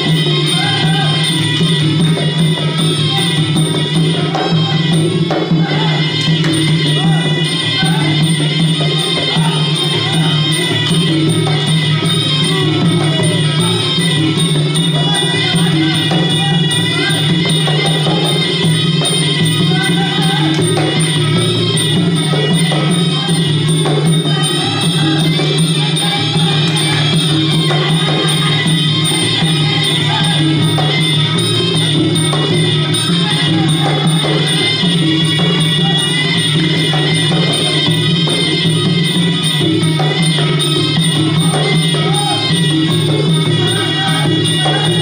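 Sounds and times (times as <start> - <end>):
small hand cymbals: 0.0 - 45.0.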